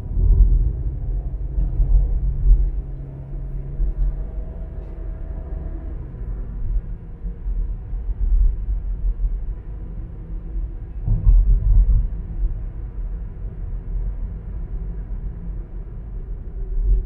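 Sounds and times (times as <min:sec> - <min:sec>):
car driving on road: 0:00.0 - 0:17.0.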